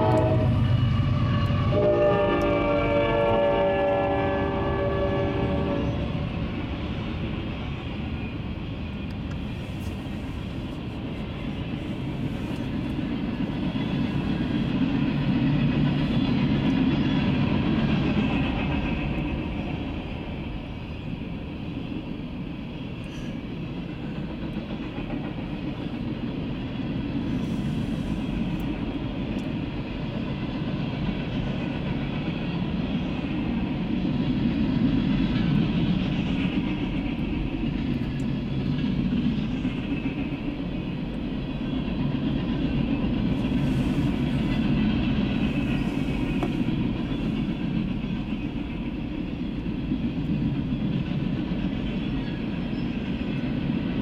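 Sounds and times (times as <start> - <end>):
freight train wheels rumbling on rail: 0.0 - 54.0.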